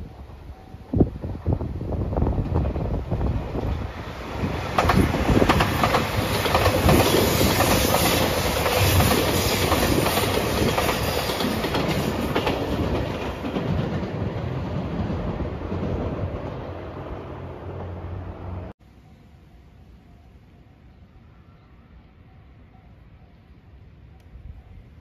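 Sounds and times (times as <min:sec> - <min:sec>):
diesel train passing: 0:00.0 - 0:25.0.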